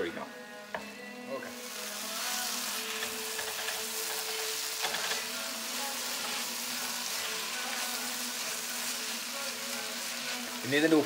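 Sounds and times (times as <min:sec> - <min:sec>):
meat sizzling in a frying pan: 0:00.6 - 0:11.0.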